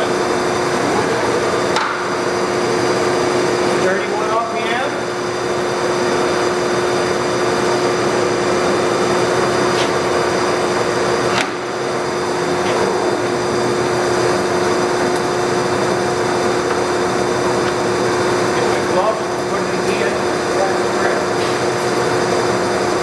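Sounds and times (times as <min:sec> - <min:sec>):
lathe machine hum: 0:00.0 - 0:23.0.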